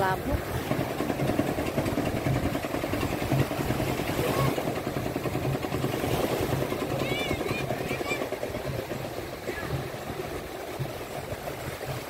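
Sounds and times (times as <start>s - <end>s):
boat engine pulsing: 0.0s - 12.0s
small waves washing over sand: 0.0s - 12.0s.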